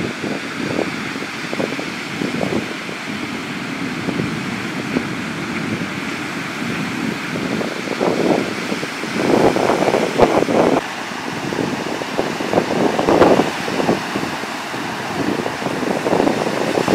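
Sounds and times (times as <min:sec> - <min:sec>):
waves breaking on beach: 0:00.0 - 0:16.9
wind buffeting microphone: 0:00.0 - 0:16.9.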